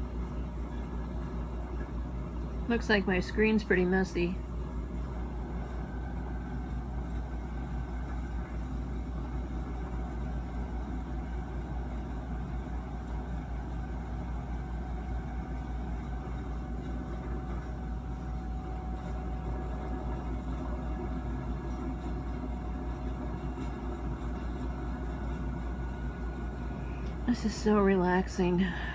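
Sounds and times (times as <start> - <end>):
train rumbling along track: 0.0 - 28.9.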